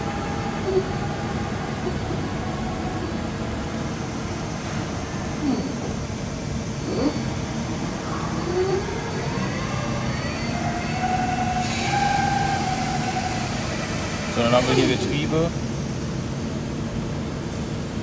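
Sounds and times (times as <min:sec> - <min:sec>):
lathe spindle whine: 0:00.0 - 0:15.6
steady machine hum: 0:00.0 - 0:18.0.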